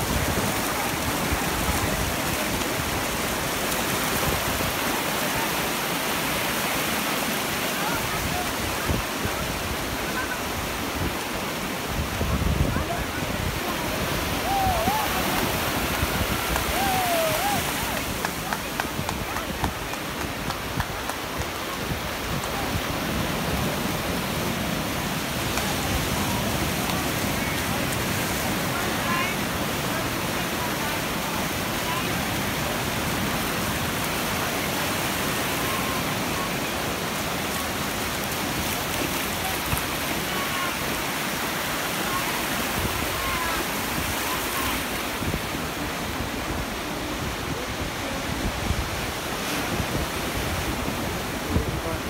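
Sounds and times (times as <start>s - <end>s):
small waves breaking on beach: 0.0s - 52.0s.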